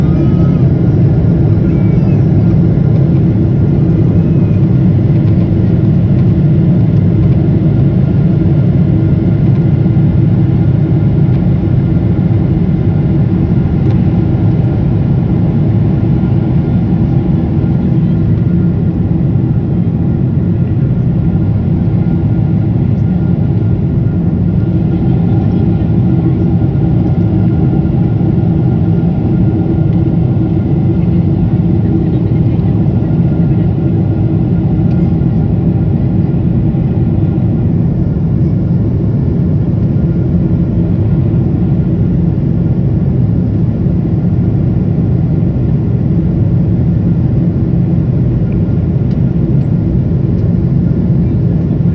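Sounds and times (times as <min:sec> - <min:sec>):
airplane cabin engine rumble: 0:00.0 - 0:51.9.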